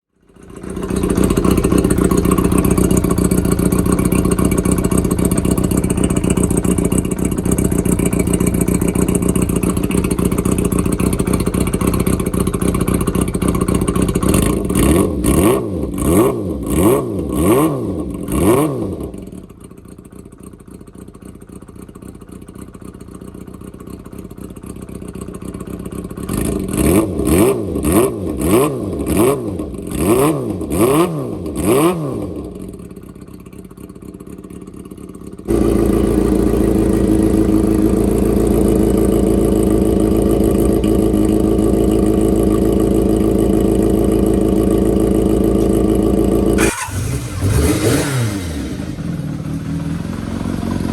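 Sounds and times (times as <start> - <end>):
motorcycle engine revving: 0.3 - 19.7, 26.0 - 50.9.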